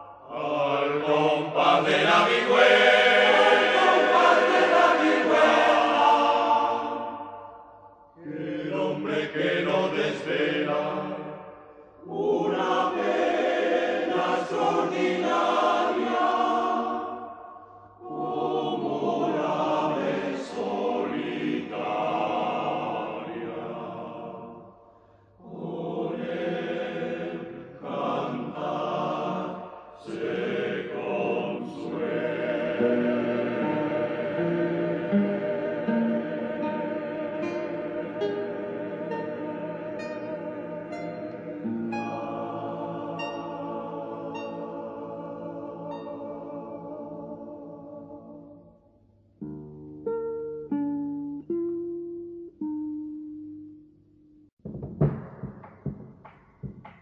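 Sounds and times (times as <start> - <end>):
choir chanting: 0.0 - 49.0.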